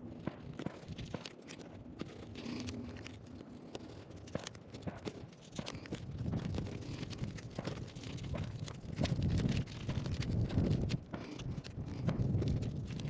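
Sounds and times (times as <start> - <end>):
paper peeling and crinkling: 0.0 - 13.0.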